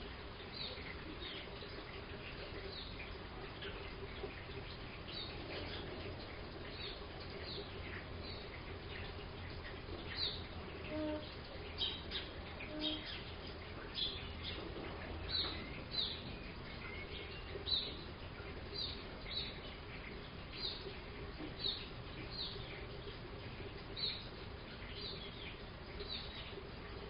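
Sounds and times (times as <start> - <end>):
rain on a roof: 0.0 - 27.0
bird chirping: 0.4 - 26.9.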